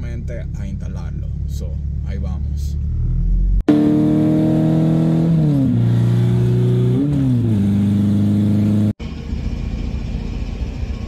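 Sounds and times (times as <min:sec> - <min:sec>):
car engine accelerating: 0:00.1 - 0:11.0.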